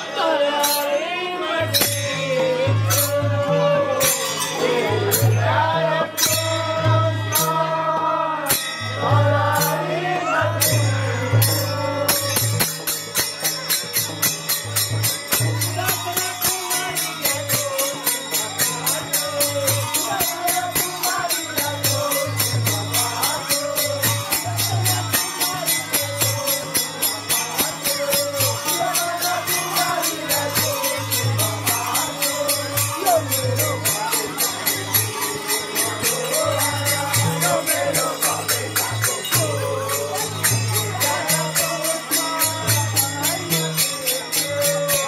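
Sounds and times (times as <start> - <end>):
jingling bells: 0.0 - 45.0
small cymbals clashing: 1.6 - 5.5, 8.5 - 45.0.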